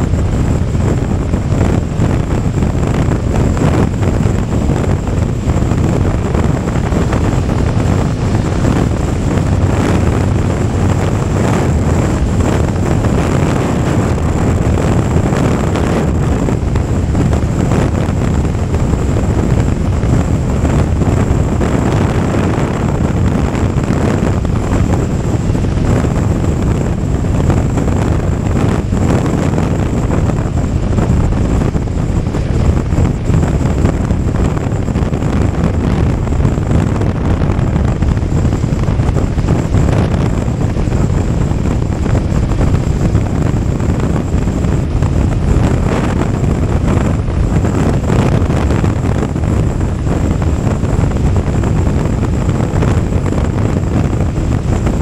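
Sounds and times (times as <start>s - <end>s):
motorcycle engine at speed: 0.0s - 55.0s
wind buffeting microphone: 0.0s - 55.0s.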